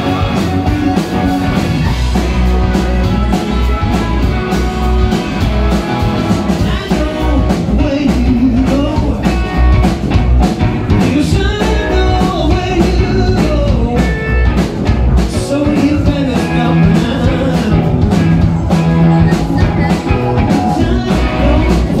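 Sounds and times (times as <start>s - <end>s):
lead vocal singing: 0.0s - 9.6s, 11.0s - 14.3s, 15.2s - 22.0s
bass guitar: 0.0s - 22.0s
distorted electric guitars: 0.0s - 22.0s
drum kit: 0.0s - 22.0s.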